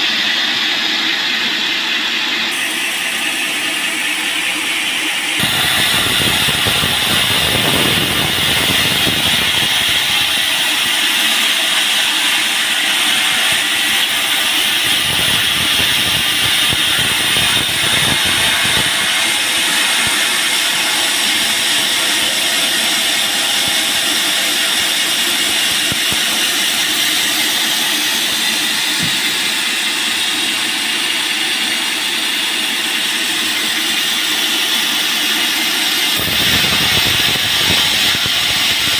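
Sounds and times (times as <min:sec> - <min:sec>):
band saw cutting log: 0:00.0 - 0:38.9.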